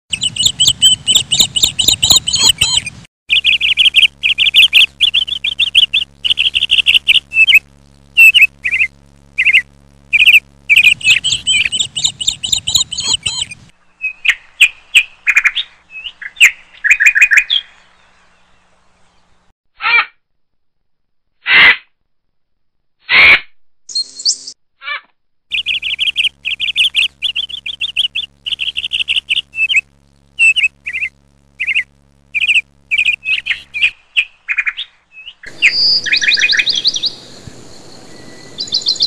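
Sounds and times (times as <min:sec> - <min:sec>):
birds chirping and trilling: 0:00.1 - 0:19.5, 0:23.9 - 0:24.6, 0:25.5 - 0:39.0.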